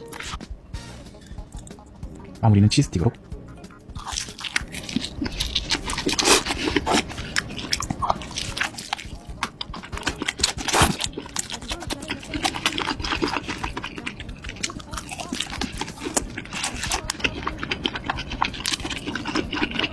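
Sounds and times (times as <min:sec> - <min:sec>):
crunchy chewing: 0:03.6 - 0:19.9.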